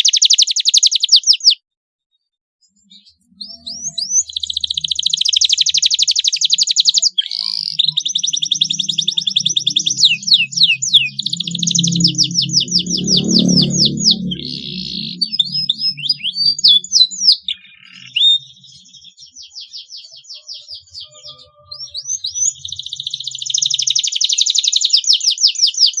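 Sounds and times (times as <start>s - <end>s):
canary singing trills: 0.0s - 1.6s, 2.6s - 26.0s.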